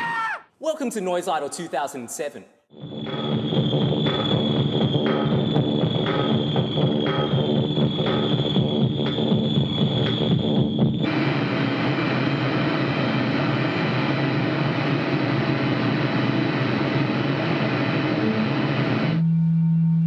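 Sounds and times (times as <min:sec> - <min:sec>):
harsh distorted noise music: 0:02.7 - 0:19.2
steady low drone: 0:02.7 - 0:20.0.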